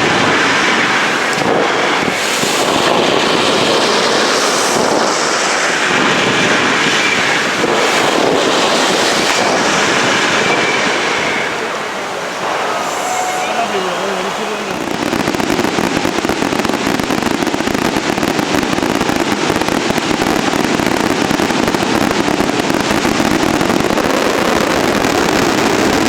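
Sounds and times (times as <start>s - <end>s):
firecrackers and fireworks barrage: 0.0s - 26.0s.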